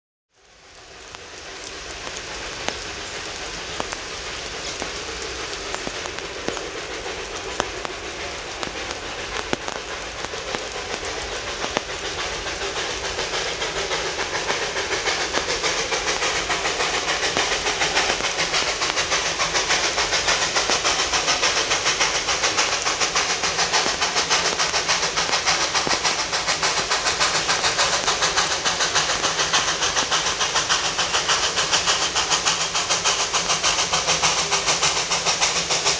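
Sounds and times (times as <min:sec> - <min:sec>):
rain hiss: 0:00.3 - 0:35.9
sharp drips or clicks: 0:00.3 - 0:35.9
steam locomotive chuffing: 0:00.3 - 0:35.9.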